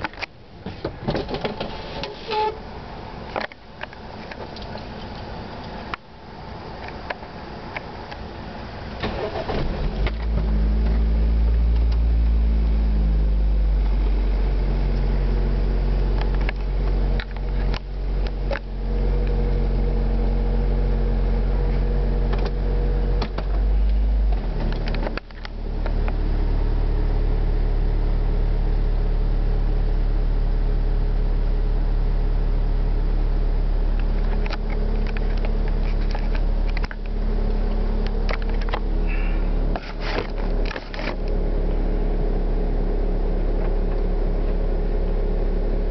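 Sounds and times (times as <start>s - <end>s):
car engine starting and idling: 0.0s - 45.9s.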